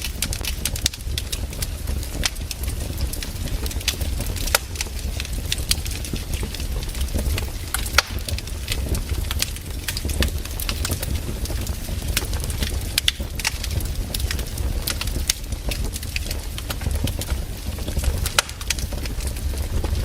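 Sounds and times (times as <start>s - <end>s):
firewood crackling and popping: 0.0s - 20.0s
low rumble of fire: 0.0s - 20.0s.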